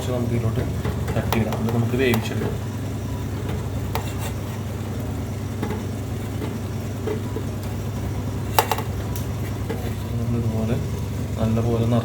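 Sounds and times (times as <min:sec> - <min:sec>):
dough balls tapping metal plate: 0:00.0 - 0:10.1
low kitchen hum: 0:00.0 - 0:12.0.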